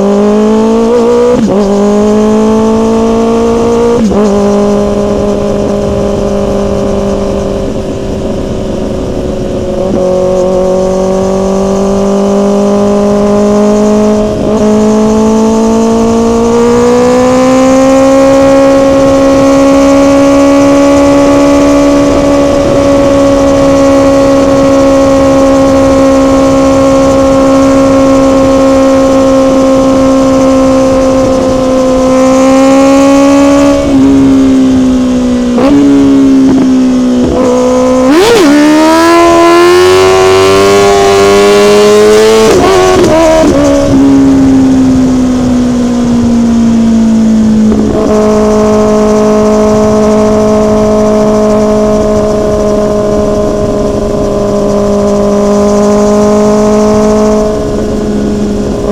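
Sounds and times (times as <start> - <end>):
motorcycle engine revving high: 0.0 - 58.9.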